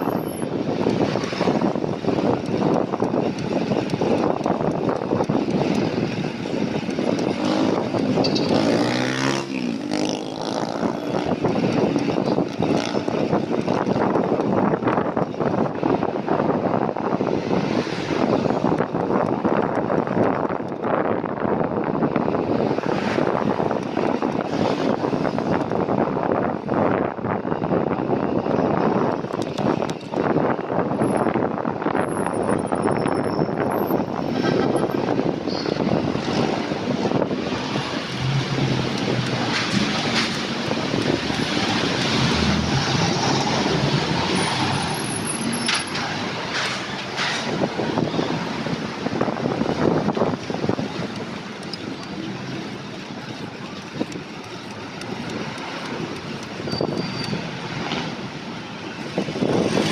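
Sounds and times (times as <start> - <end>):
road and traffic noise: 0.0 - 59.9
wind rushing over microphone: 0.0 - 59.9.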